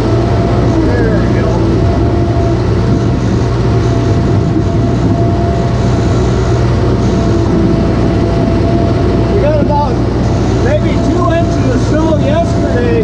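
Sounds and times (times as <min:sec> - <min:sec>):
heavy engine rumbling: 0:00.0 - 0:13.0
thin steady whine: 0:00.0 - 0:13.0.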